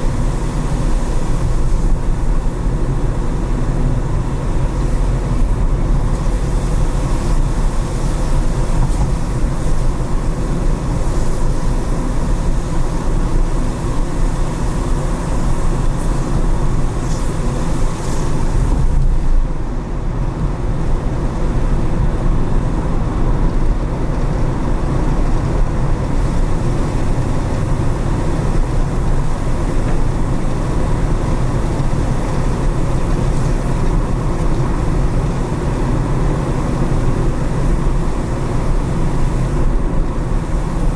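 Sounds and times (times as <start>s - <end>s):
car driving on wet road: 0.0s - 40.9s.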